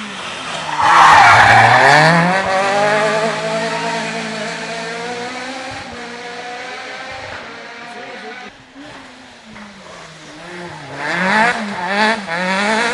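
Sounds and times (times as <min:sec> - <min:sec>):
rally car passing at speed: 0:00.0 - 0:12.9.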